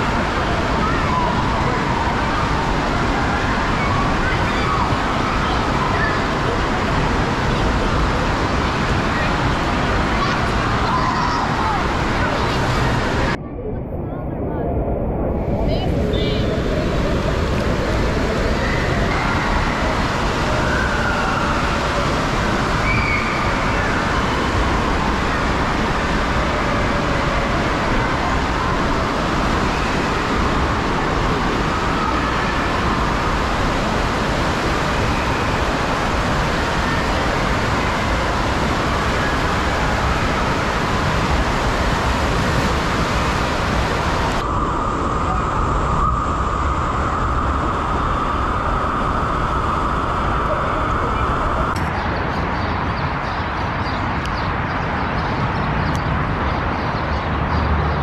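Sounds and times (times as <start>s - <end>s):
water rushing and splashing: 0.0s - 13.4s, 15.6s - 58.0s.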